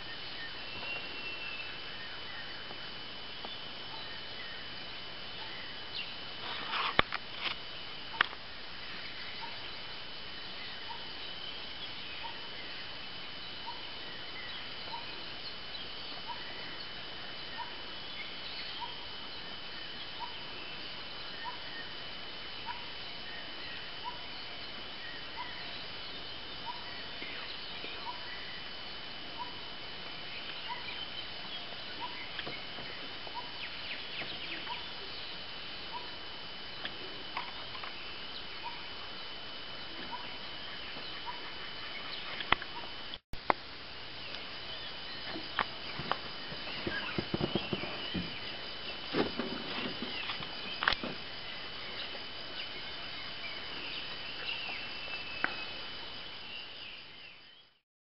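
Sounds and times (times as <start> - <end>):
high whine and hiss: 0.0 - 57.8.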